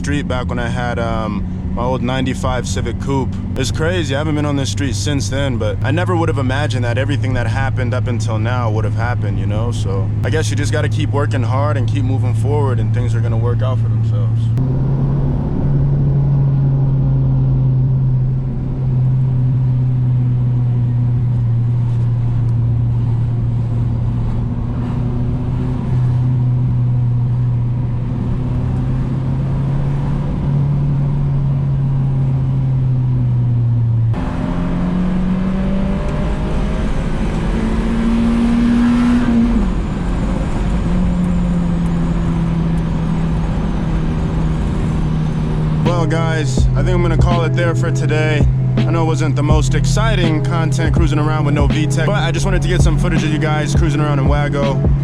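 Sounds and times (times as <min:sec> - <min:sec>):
car engine cruising: 0:00.0 - 0:55.0.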